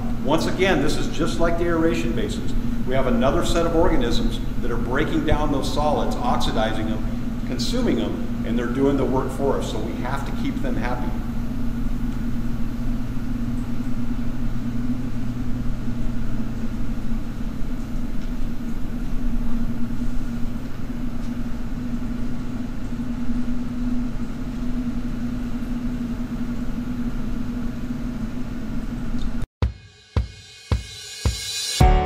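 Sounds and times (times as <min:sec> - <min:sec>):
pump and compressor humming: 0:00.0 - 0:29.4.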